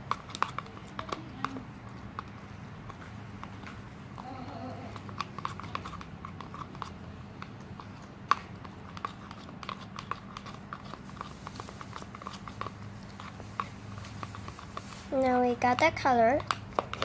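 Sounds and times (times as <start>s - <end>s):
spoon stirring sticky paint: 0.0s - 17.0s.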